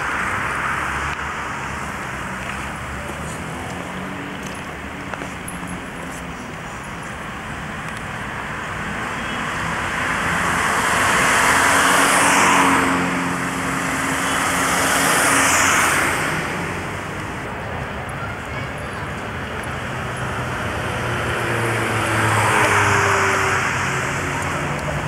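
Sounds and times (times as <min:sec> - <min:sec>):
cars passing close by: 0:00.0 - 0:25.0
traffic hum: 0:00.0 - 0:25.0.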